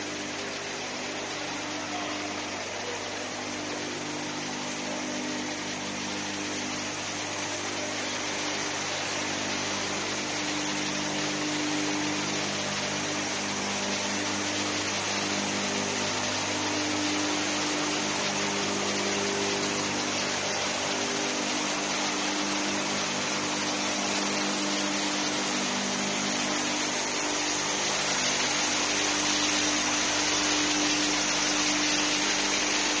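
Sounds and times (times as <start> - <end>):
continuous hiss: 0.0 - 33.0
machinery humming: 0.0 - 33.0.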